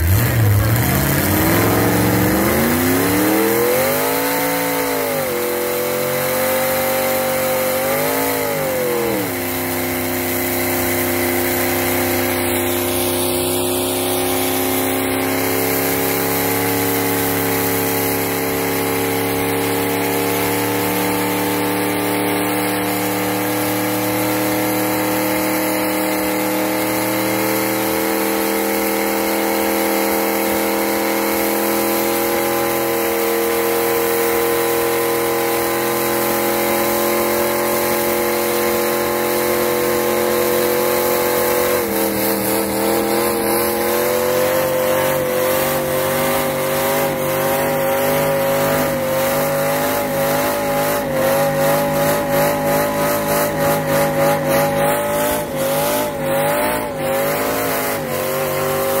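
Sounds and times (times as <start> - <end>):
truck engine at high revs: 0.0 - 59.0
tyres spinning in burnout: 0.0 - 59.0.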